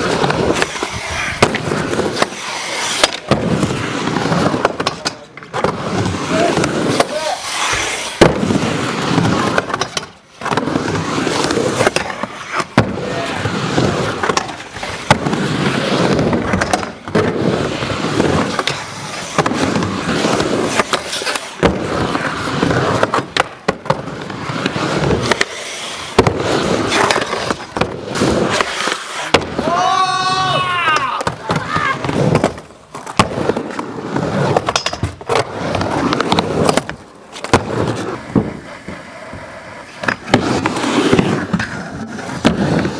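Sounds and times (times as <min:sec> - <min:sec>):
skateboard clacks and knocks: 0:00.0 - 0:42.9
skateboard wheels rumbling on concrete: 0:00.0 - 0:42.9.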